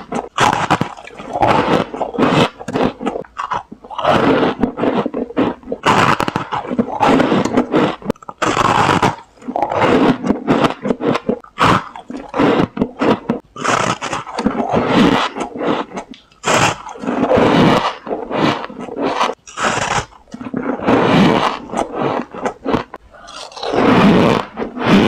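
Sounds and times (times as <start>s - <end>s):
chewing: 0.0s - 25.0s
frost crunching: 0.0s - 25.0s.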